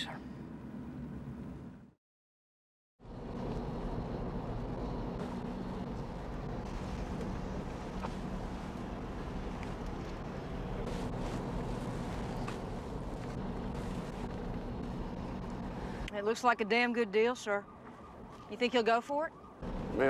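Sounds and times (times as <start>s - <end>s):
highway traffic road noise: 3.0s - 20.0s.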